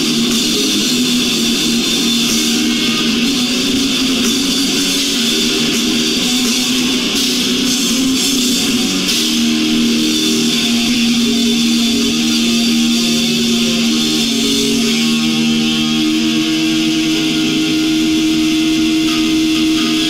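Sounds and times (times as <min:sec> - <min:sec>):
heavy metal electric guitars: 0:00.0 - 0:20.0.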